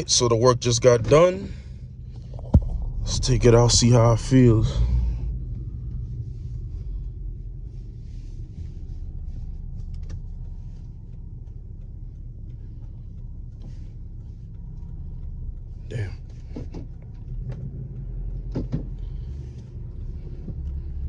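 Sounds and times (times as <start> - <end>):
engine and road noise rumble: 0.0 - 21.0.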